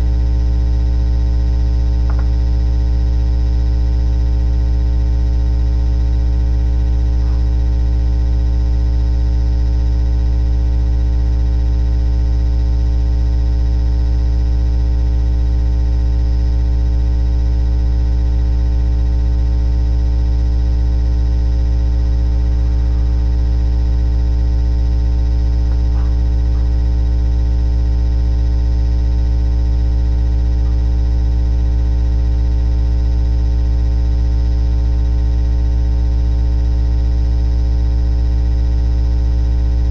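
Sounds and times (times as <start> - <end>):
loud buzzy electrical hum: 0.0 - 39.9.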